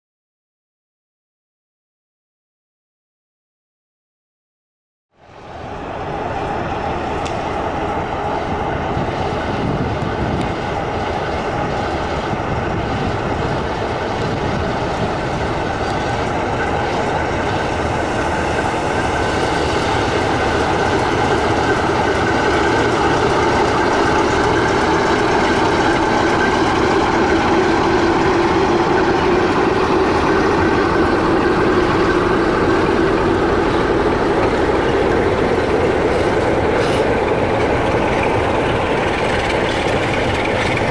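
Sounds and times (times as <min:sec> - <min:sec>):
freight wagons rumbling past: 0:05.2 - 0:40.9
locomotive diesel engine under load: 0:05.2 - 0:40.9
clickety-clack of train wheels: 0:06.1 - 0:40.9.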